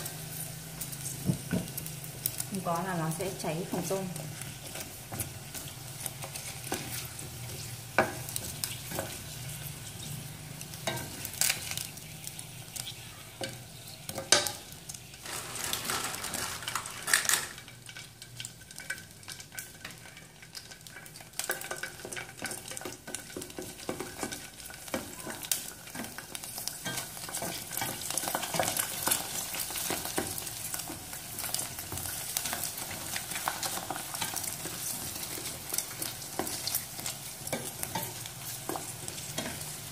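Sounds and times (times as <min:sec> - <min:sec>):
crackers sizzling in hot oil: 0:00.0 - 0:39.9.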